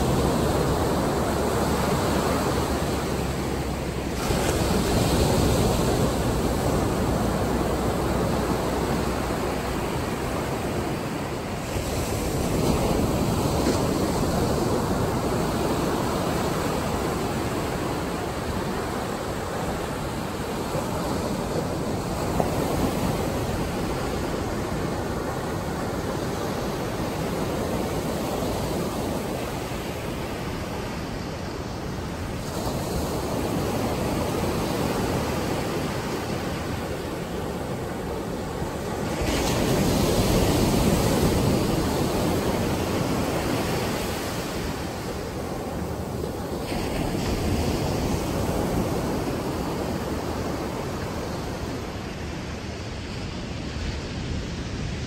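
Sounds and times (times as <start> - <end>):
surf breaking on sand beach: 0.0 - 55.0.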